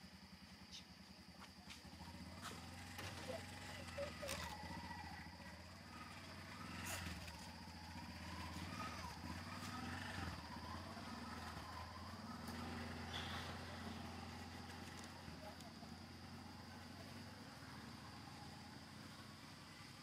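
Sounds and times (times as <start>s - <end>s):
faint gliding calls: 0.6s - 20.0s.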